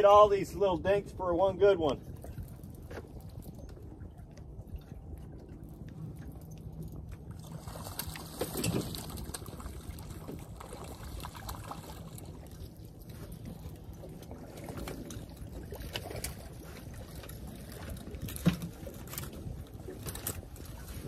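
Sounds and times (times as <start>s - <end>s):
outboard motor hum: 0.0s - 21.0s
water splashing against boat: 0.0s - 21.0s.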